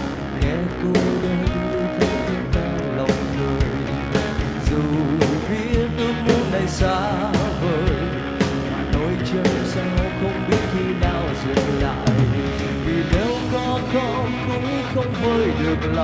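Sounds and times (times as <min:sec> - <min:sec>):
pop-rock song with vocals: 0:00.0 - 0:16.0.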